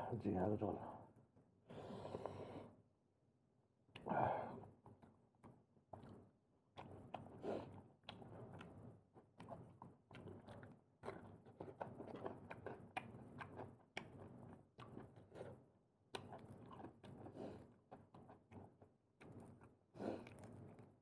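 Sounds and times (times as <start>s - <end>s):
person chewing seafood: 4.0s - 20.9s.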